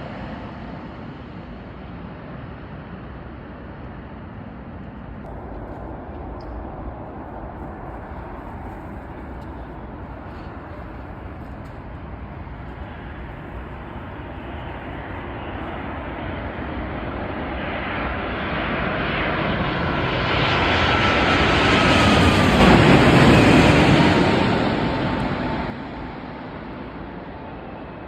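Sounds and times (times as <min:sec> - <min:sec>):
jet airliner engines: 0:00.0 - 0:28.0.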